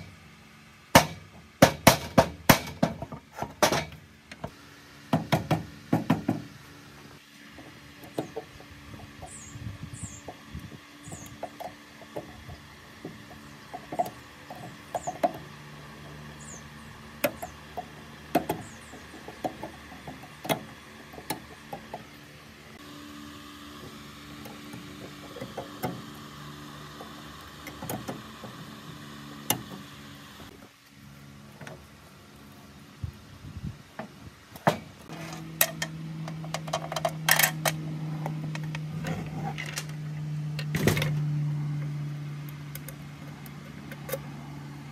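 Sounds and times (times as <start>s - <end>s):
low hum: 5.6s - 44.9s.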